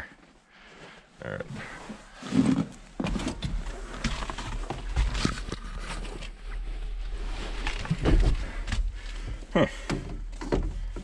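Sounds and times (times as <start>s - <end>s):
clothing rustle: 0.2s - 9.5s.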